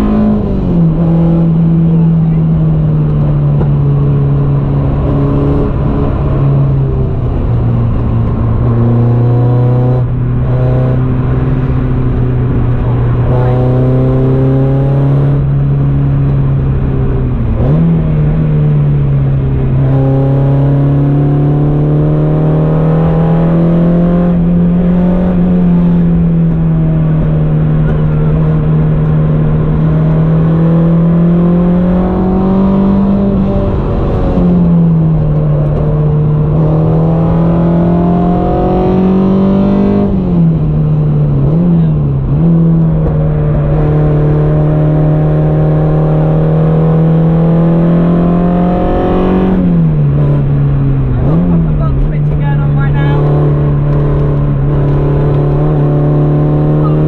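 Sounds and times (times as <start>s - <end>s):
car engine running hard: 0.0s - 57.0s
road and wind noise: 0.0s - 57.0s.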